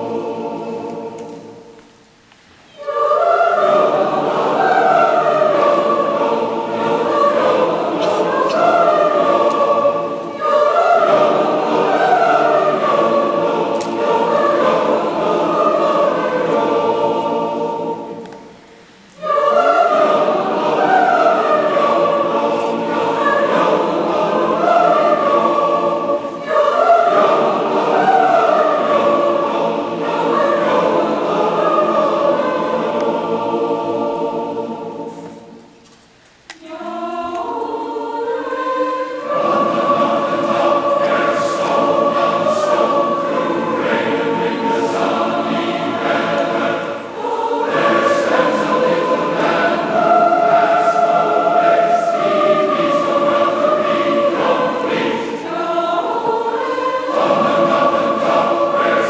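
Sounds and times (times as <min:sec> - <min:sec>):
choir yodelling: 0:00.0 - 0:01.8, 0:02.7 - 0:35.7, 0:36.6 - 0:59.0.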